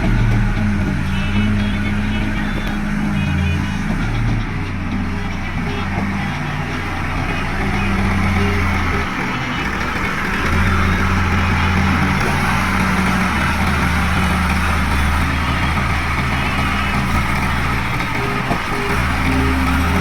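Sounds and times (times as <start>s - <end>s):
diesel machinery engine humming: 0.0s - 20.0s.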